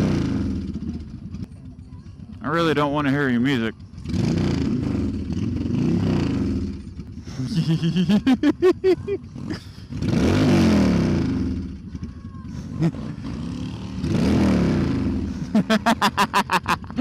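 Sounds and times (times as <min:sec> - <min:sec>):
motorcycle exhaust revving: 0:00.0 - 0:17.0.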